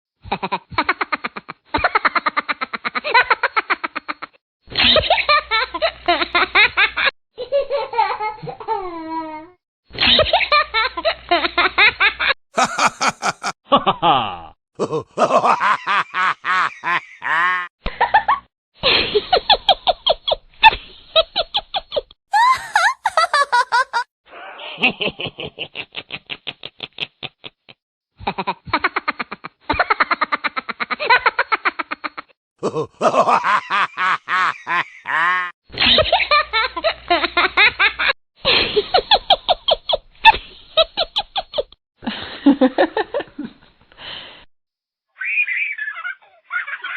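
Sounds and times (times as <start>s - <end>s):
laughter sound effects: 0.3s - 8.6s, 10.0s - 43.6s, 45.2s - 46.9s.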